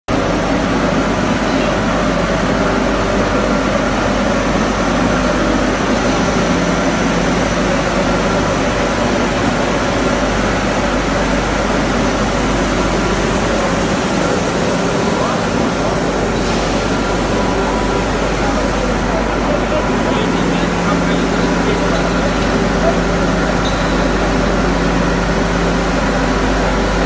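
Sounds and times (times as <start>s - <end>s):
constant hum: 0.1s - 27.0s.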